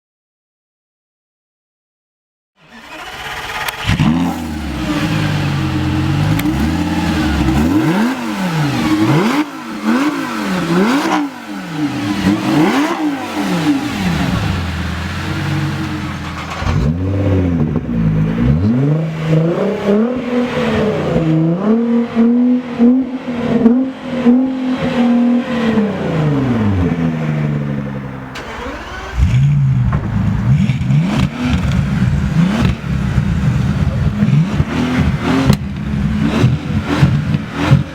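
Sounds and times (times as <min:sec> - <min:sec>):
car engine idling and blipping: 0:02.8 - 0:37.9
sports car engine revving: 0:02.8 - 0:37.9.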